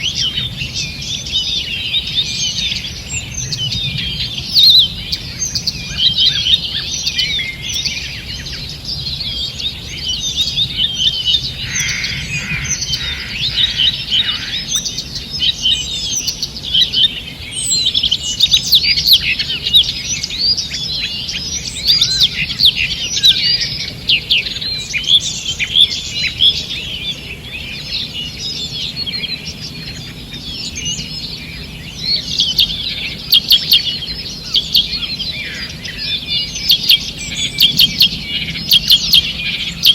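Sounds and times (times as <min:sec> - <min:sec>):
low repeated bird notes: 0:00.0 - 0:39.9
songbirds singing: 0:00.0 - 0:39.9.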